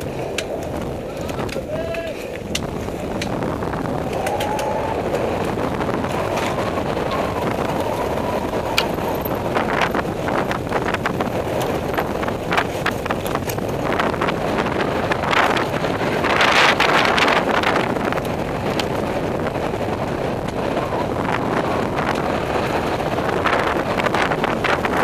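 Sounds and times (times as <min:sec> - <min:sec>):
bike rattling over bumps: 0:00.0 - 0:25.0
bike tyres on dirt trail: 0:00.0 - 0:25.0
wind buffeting microphone: 0:00.0 - 0:25.0.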